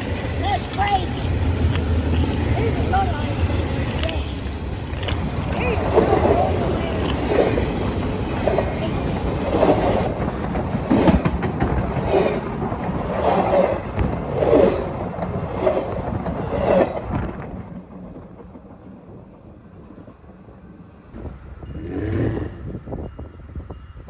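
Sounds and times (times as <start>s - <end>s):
train wheels clacking: 0.0s - 20.3s.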